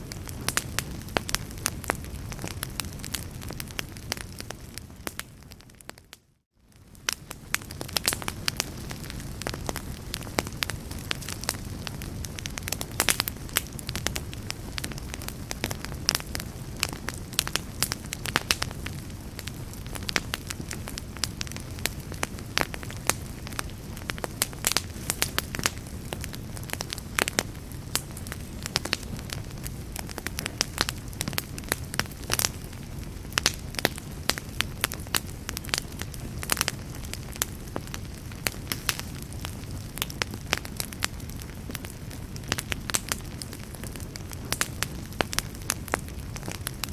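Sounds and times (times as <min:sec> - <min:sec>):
fire low rumble: 0:00.0 - 0:46.9
wood fire crackling and popping: 0:00.0 - 0:46.9.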